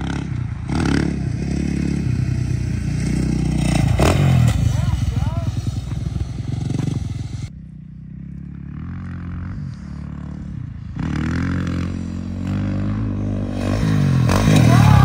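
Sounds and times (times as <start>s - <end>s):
dirt bike engine close by: 0.0s - 15.0s
distant dirt bike revving: 0.0s - 15.0s.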